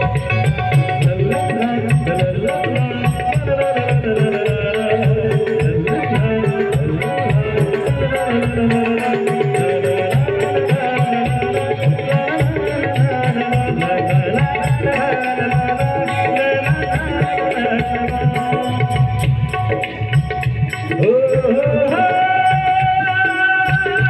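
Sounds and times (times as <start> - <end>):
tabla beat: 0.0 - 24.0.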